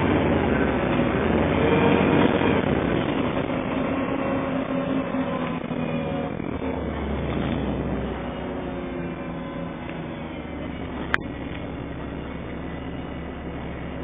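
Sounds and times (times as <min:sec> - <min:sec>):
bus engine humming: 0:00.0 - 0:14.0
road and cabin noise: 0:00.0 - 0:14.0.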